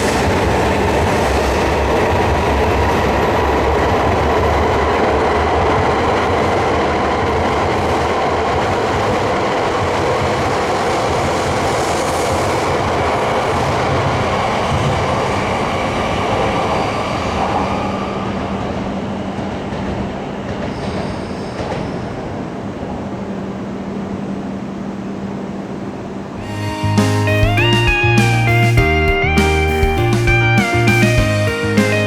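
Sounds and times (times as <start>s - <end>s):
train rushing past: 0.0s - 32.0s.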